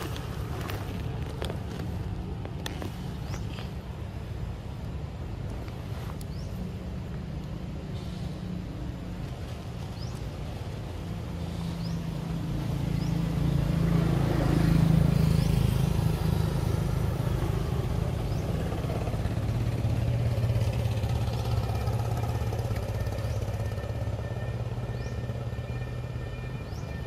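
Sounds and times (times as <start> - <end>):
vehicle engine humming: 0.0 - 27.0.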